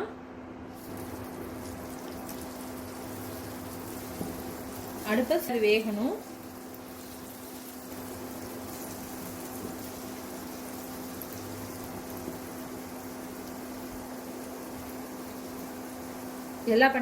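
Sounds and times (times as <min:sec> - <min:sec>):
steady low hum: 0:00.0 - 0:17.0
batter sizzling in hot oil: 0:00.7 - 0:17.0.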